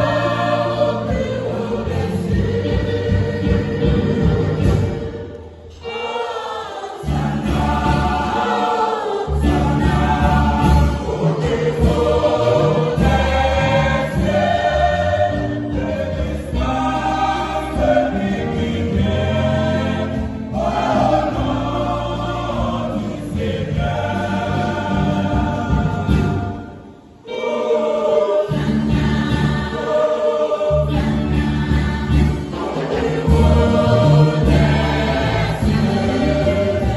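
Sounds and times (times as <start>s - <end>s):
mixed choir singing a hymn: 0.0s - 36.9s.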